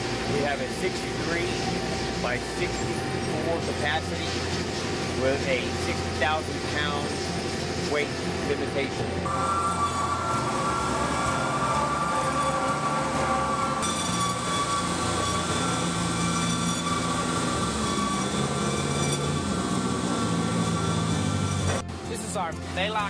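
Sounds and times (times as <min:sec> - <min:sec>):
band saws humming and whining: 0:00.0 - 0:23.0.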